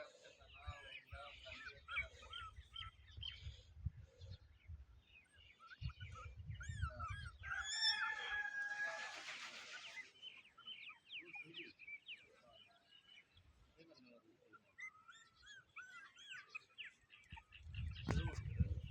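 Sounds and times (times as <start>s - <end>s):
birds chirping: 0.0s - 8.8s, 9.4s - 18.9s.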